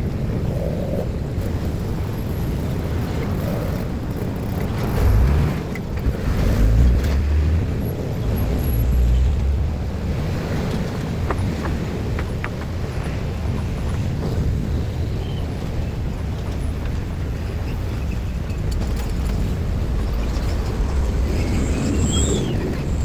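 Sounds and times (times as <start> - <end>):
vehicles passing: 0.0 - 15.0, 15.6 - 23.0.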